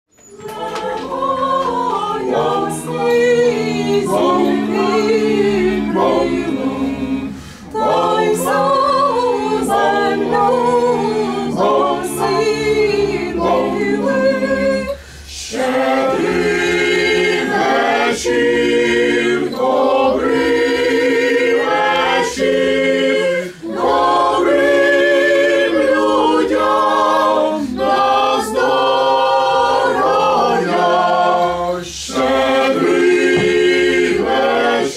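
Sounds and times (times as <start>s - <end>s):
group singing a carol a cappella: 0.2s - 34.9s.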